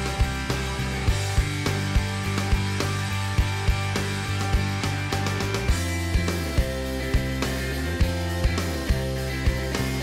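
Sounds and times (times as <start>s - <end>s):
held bass notes: 0.0s - 10.0s
steady drum beat: 0.0s - 10.0s.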